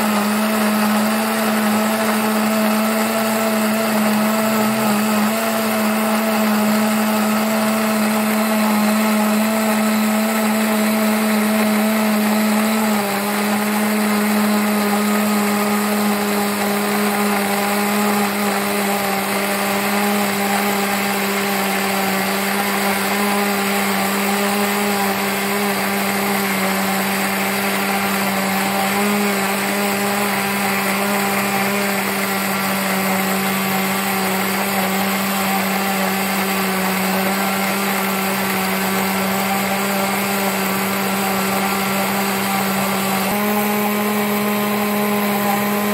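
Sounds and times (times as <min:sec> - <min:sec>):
electric blender motor running: 0:00.0 - 0:45.9.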